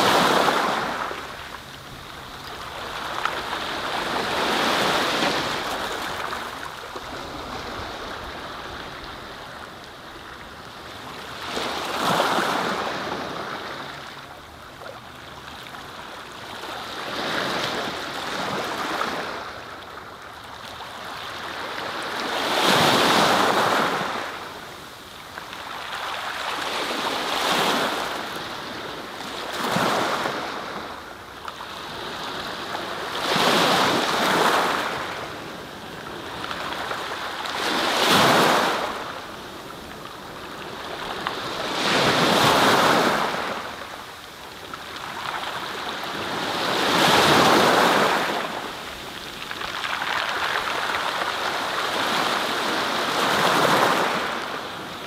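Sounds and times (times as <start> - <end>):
waves breaking and washing in: 0.0 - 55.0.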